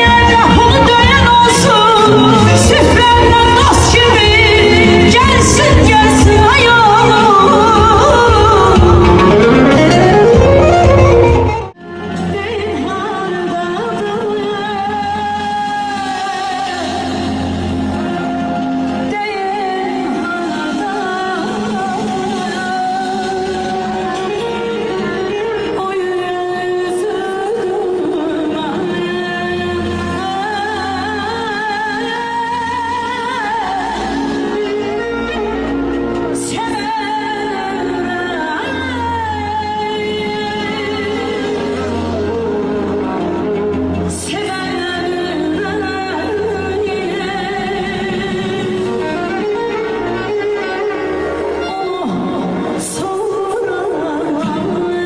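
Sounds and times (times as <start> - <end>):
instrumental accompaniment: 0.0 - 55.0
ornamented melody with trills: 0.0 - 55.0
woman singing: 0.0 - 55.0.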